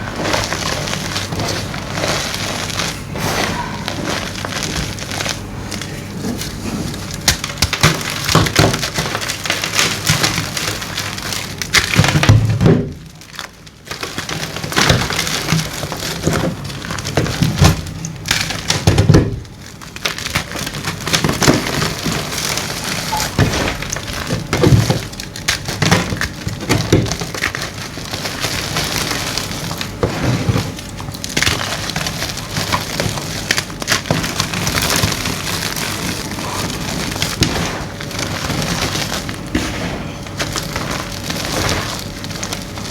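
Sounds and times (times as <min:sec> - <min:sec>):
chalk crunching and crackling: 0:00.0 - 0:12.0, 0:19.8 - 0:42.9.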